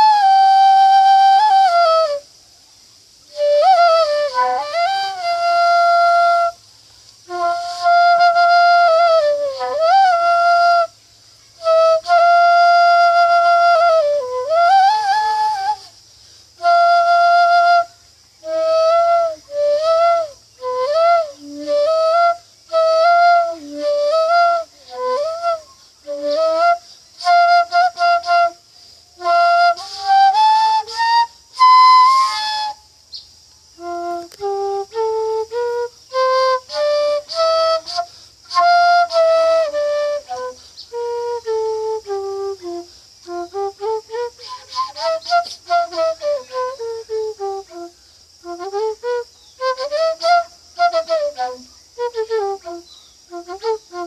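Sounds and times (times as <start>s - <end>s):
bamboo flute playing: 0.0s - 54.0s.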